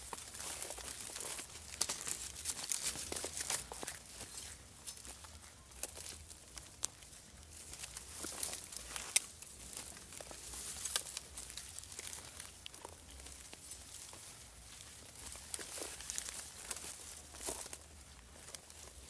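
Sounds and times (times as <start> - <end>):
dry foliage rustling and tearing: 0.0 - 19.0
sharp crackles: 0.0 - 19.0.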